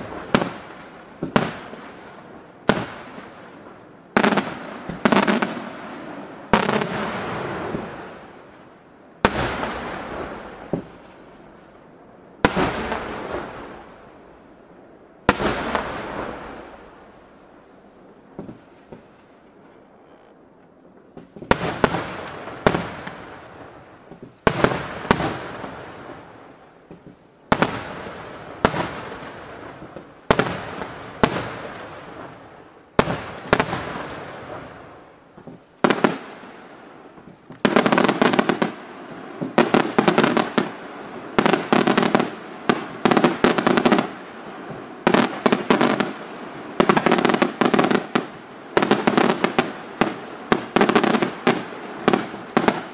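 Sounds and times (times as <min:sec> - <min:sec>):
firework crackle: 0:00.0 - 0:20.3, 0:21.0 - 0:52.9.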